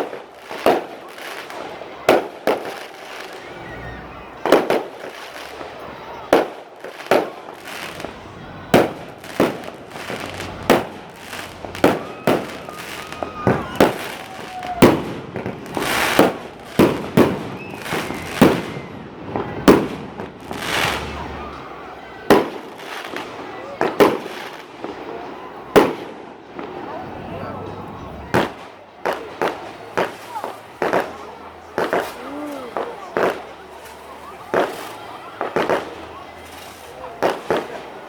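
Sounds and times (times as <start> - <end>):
fireworks banging: 0.0 - 38.0.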